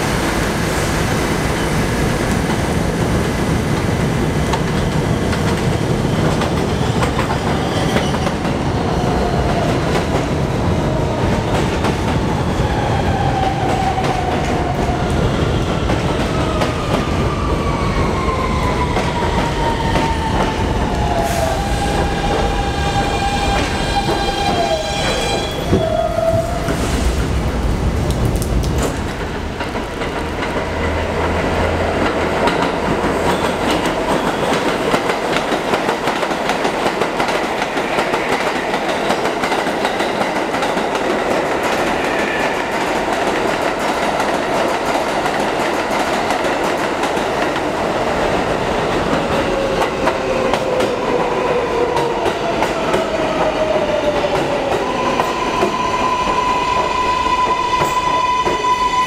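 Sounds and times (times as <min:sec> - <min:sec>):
high-pitched train whine: 0:00.0 - 0:27.6, 0:37.0 - 0:59.0
train rumble: 0:00.0 - 0:59.0.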